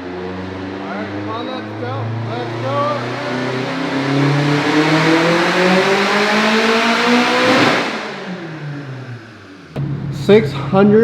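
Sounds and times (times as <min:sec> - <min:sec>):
turbocharged engine revving: 0:00.0 - 0:10.8.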